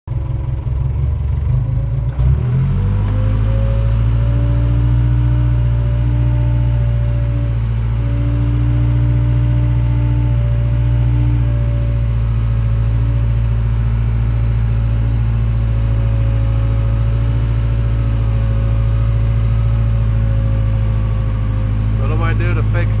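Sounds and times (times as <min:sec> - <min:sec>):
diesel engine revving: 0:00.1 - 0:23.0.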